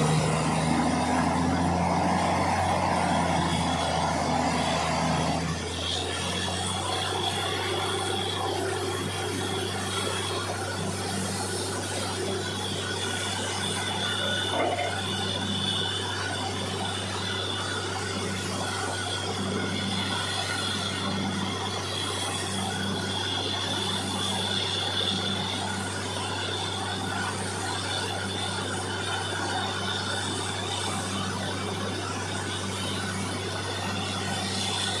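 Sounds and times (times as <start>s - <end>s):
drilling rig drone: 0.0s - 35.0s
high machine whine: 0.0s - 35.0s.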